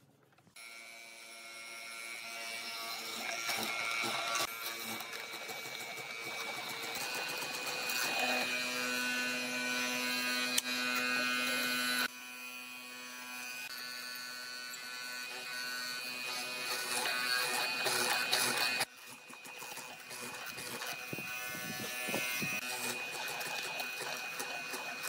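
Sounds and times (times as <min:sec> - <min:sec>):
chisel boring into wood: 0:00.6 - 0:12.1, 0:12.9 - 0:25.0
electric motor whining: 0:00.6 - 0:25.0.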